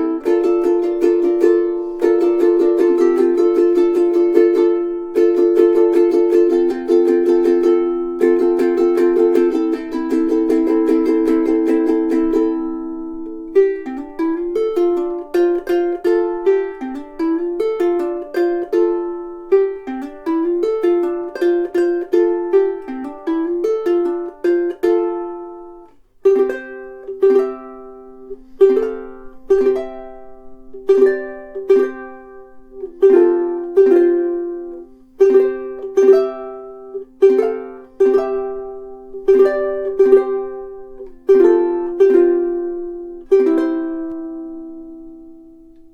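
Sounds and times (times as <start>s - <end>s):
ukulele chords strummed: 0.0s - 45.9s.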